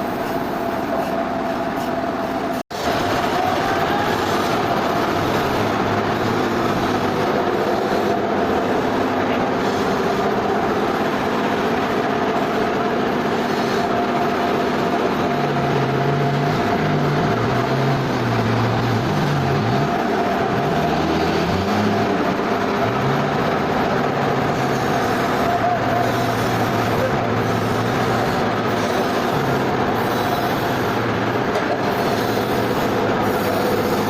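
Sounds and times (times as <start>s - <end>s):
sawmill machinery whine: 0.0s - 34.0s.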